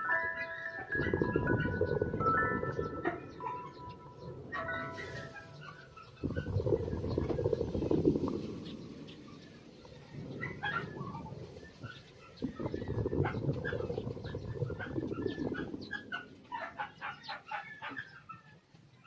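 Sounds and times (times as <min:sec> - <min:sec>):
birds chirping: 0:00.0 - 0:19.0
low uneven rumbling: 0:00.9 - 0:16.6.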